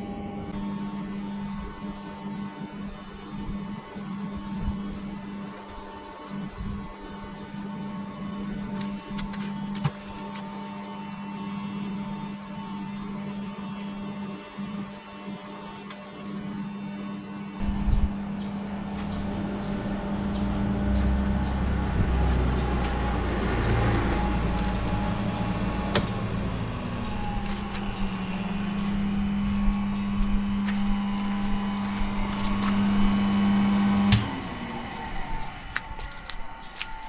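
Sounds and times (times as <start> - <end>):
robot arm motor hum: 0.0 - 37.0.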